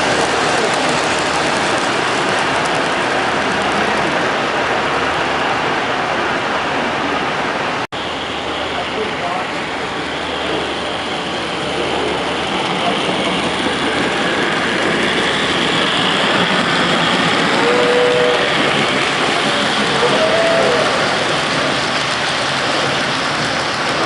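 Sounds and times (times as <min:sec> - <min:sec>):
model trains running: 0:00.0 - 0:24.0.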